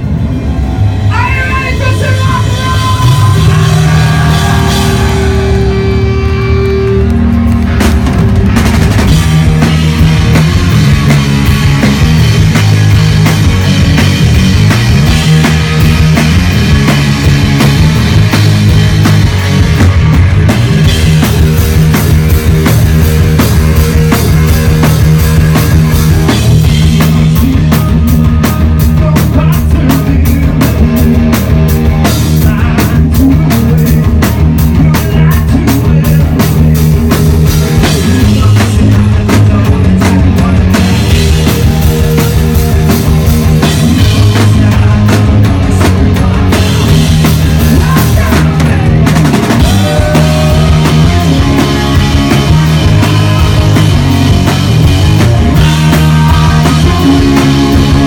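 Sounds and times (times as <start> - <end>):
live rock band: 0.0 - 58.0.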